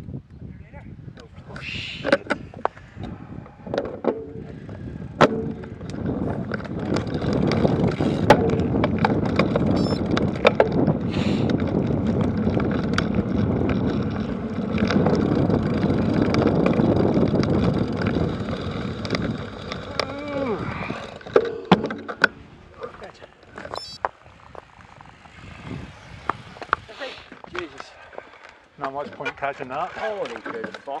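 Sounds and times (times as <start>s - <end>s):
wind on microphone: 0.0s - 28.1s
bicycle tyres rumbling: 0.0s - 31.0s
bike rattling clicks: 2.0s - 29.6s.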